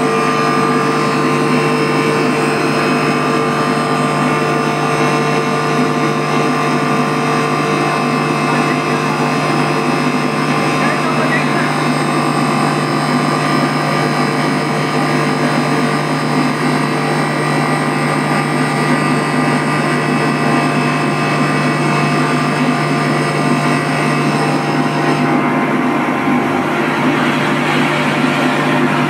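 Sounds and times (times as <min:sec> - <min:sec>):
electric pump humming and whining: 0:00.0 - 0:29.0.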